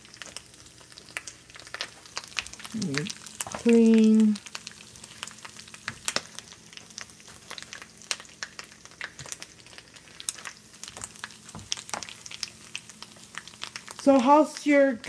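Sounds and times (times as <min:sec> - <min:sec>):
chorizo sizzling in oil: 0:00.0 - 0:15.0
small crackles and pops: 0:00.0 - 0:15.0.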